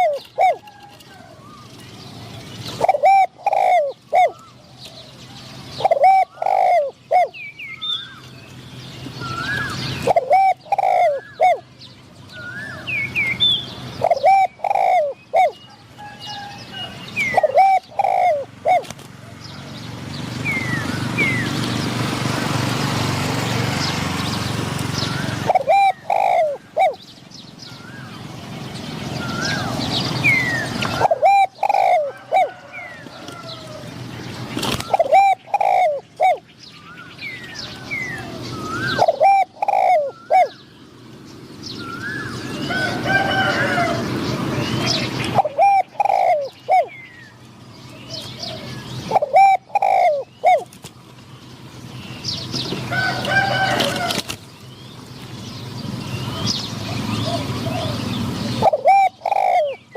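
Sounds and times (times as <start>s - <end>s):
doves cooing: 0.0s - 8.4s, 9.0s - 41.1s, 41.7s - 59.9s
small birds chirping: 0.0s - 59.9s.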